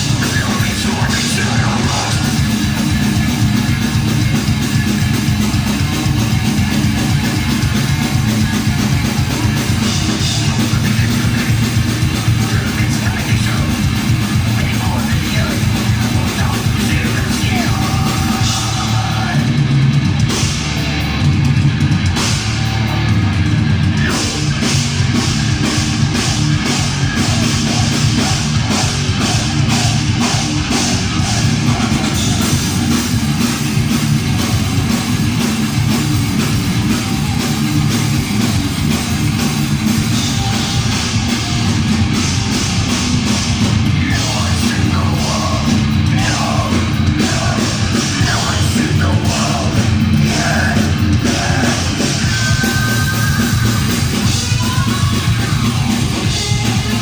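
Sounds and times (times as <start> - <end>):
distorted guitars and bass: 0.0 - 57.0
fast drum beat: 0.0 - 57.0.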